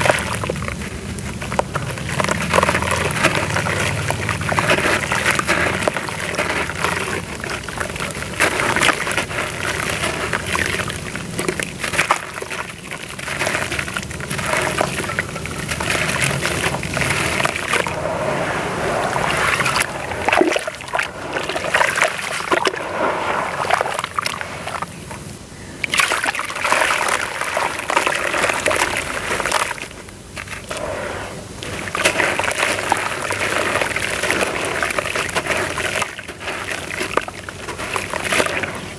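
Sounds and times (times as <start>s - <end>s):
grains pattering into water: 0.0s - 25.2s, 25.8s - 30.8s, 31.6s - 38.9s
water sloshing and splashing: 0.0s - 38.9s.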